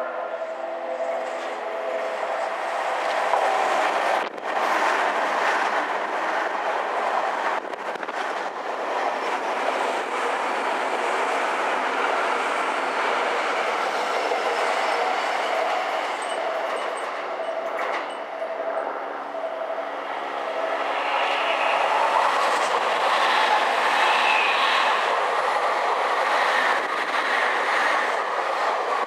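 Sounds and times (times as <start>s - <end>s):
steel train wheels on rails: 0.0s - 29.0s.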